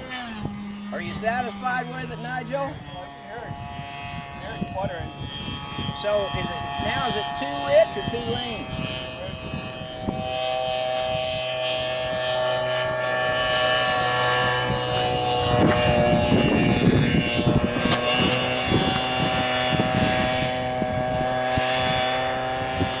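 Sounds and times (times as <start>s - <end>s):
model jet engine high tone: 0.0s - 23.0s.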